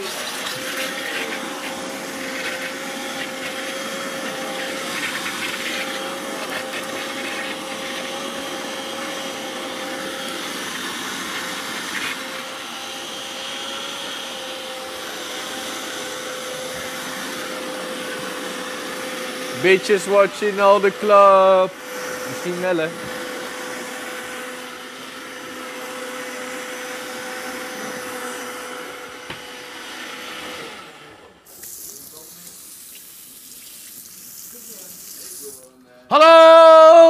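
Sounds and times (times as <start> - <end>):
blender motor running: 0.0 - 35.5.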